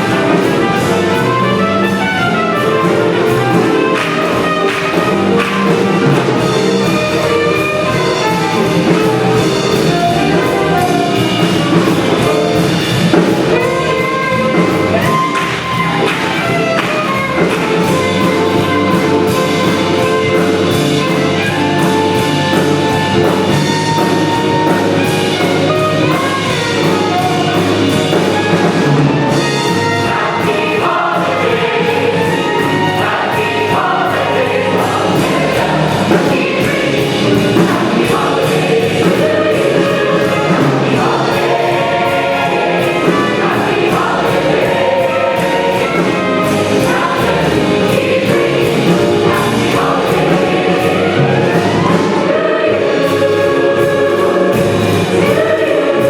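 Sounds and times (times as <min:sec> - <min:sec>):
big band jazz with brass: 0:00.0 - 0:56.0.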